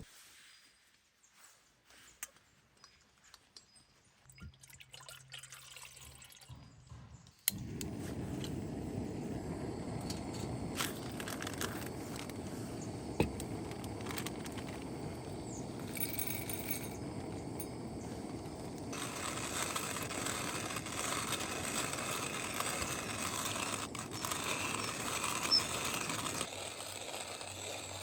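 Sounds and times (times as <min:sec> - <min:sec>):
steady liquid sound: 0:04.3 - 0:28.0.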